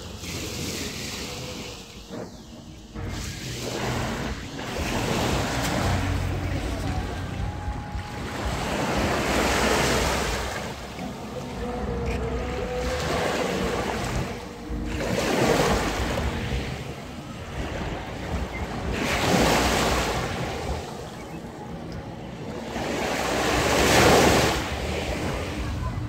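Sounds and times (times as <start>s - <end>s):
waves breaking on pebble beach: 0.0s - 21.1s
wind rumbling on microphone: 0.0s - 26.0s.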